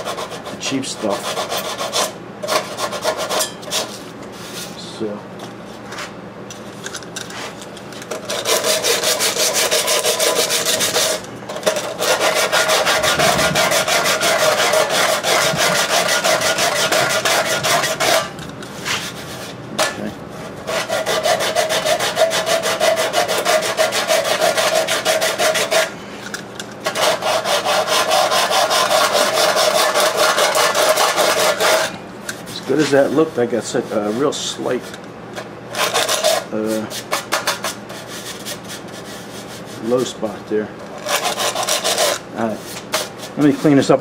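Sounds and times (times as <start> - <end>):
sandpaper scraping: 0.0 - 4.8, 7.3 - 19.6, 20.4 - 25.9, 26.8 - 35.0, 35.8 - 40.2, 40.9 - 44.0.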